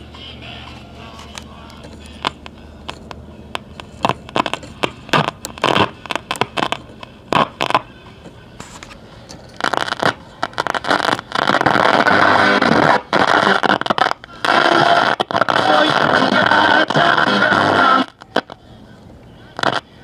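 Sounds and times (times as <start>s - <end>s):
radio speaker crackling: 0.0s - 20.0s
radio static hiss: 0.0s - 20.0s.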